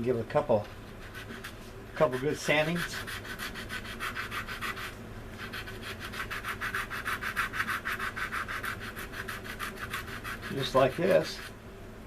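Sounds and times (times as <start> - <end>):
sanding stick rubbing plastic: 1.0 - 11.5.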